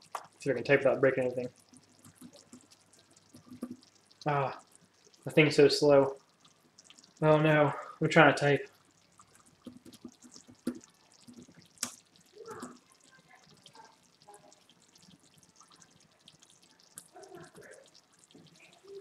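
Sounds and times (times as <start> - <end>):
sauce simmering with bubbles popping: 0.0 - 19.0.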